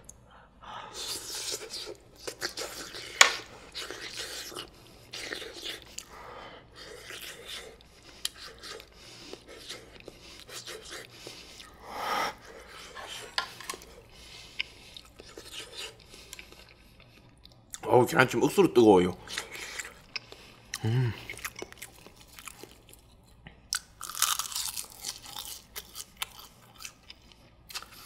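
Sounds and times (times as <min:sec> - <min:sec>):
person chewing: 0:00.9 - 0:17.9, 0:19.2 - 0:28.0.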